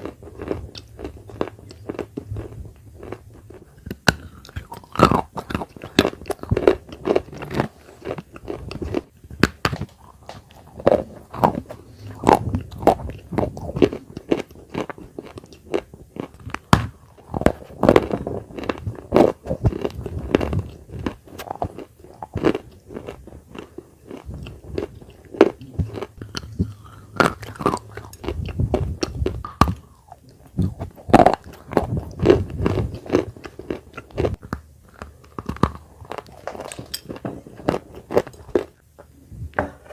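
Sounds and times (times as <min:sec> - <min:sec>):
chewing crunchy clay: 0:00.0 - 0:38.8.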